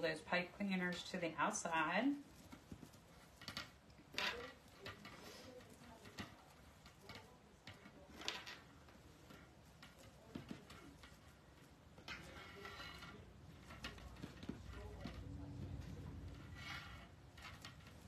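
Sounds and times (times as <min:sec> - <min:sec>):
hands rustling mesh: 0:00.0 - 0:18.0.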